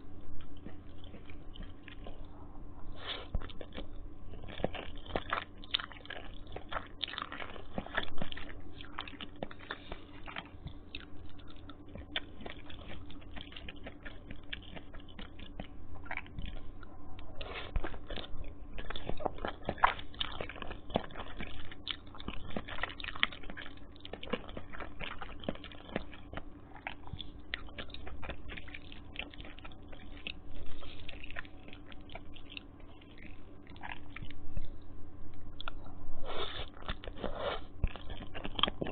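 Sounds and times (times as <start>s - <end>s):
chewing noodles: 0.0s - 38.9s.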